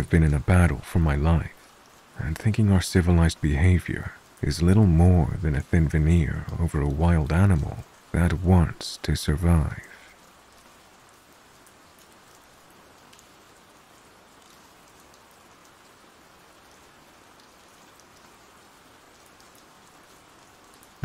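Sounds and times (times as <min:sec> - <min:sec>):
rain hissing: 0:00.0 - 0:21.0
raindrops ticking: 0:00.0 - 0:21.0.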